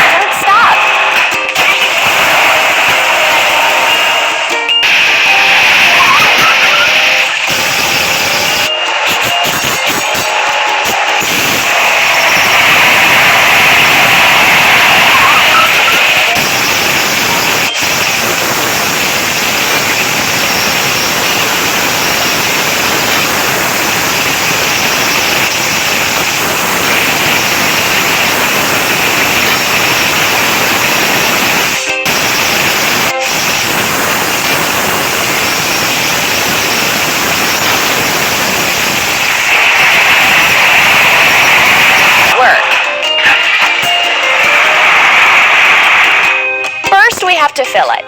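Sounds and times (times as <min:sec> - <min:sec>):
loud rushing noise: 0:00.0 - 0:46.9.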